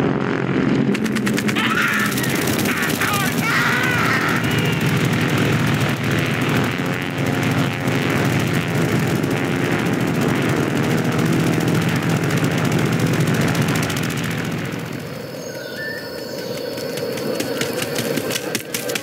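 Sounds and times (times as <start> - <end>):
swarm of wings whirring: 0.0 - 19.0.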